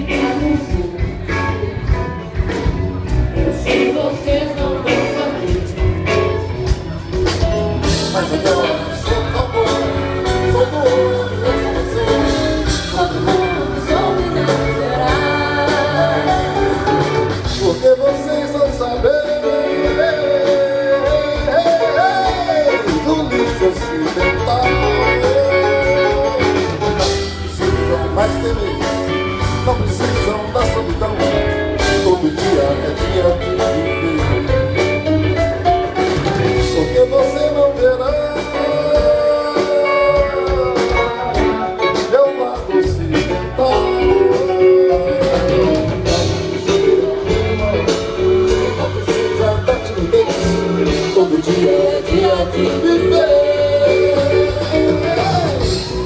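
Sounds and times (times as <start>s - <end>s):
live rock band through speakers: 0.0s - 56.0s
person singing: 0.0s - 56.0s.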